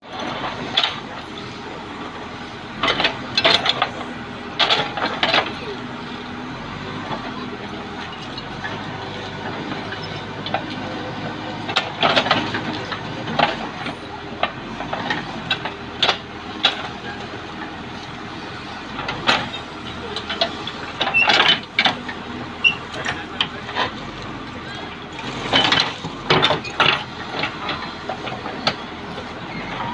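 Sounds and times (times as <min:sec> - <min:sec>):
backhoe diesel engine running: 0:00.0 - 0:29.9.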